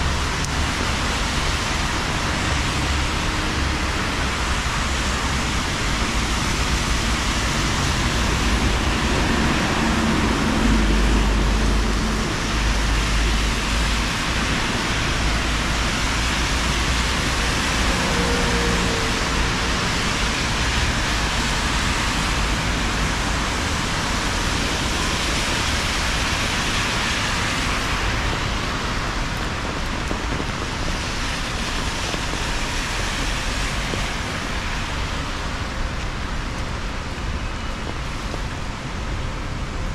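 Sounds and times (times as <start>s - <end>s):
passing vehicle rumble: 0.0s - 37.4s
car tyres swishing on wet street: 0.0s - 39.9s
rain falling on pavement: 0.0s - 39.9s.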